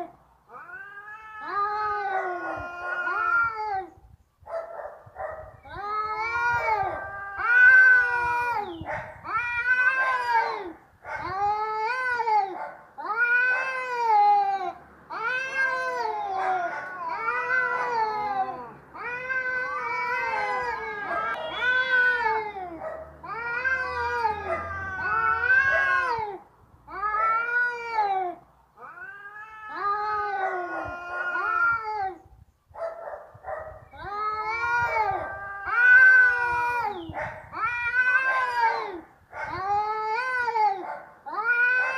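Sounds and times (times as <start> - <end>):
cats yowling in a fight: 0.0 - 3.9, 5.7 - 32.2, 33.9 - 41.9.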